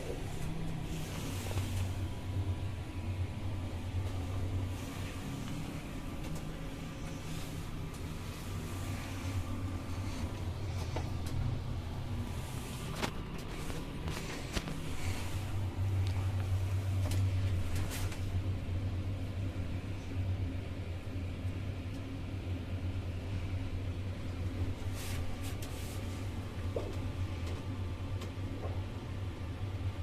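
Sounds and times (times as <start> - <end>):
elevator hum: 0.0 - 30.0.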